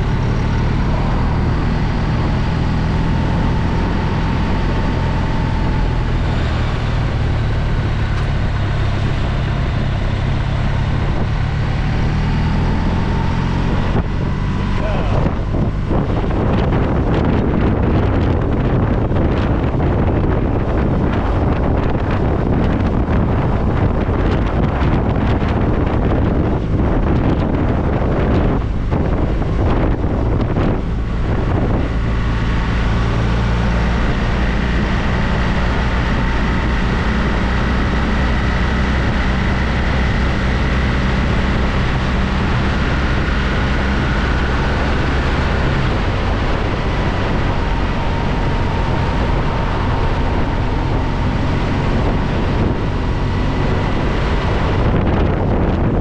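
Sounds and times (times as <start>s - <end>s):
motorcycle engine: 0.0s - 56.0s
wind rushing over microphone: 0.0s - 56.0s.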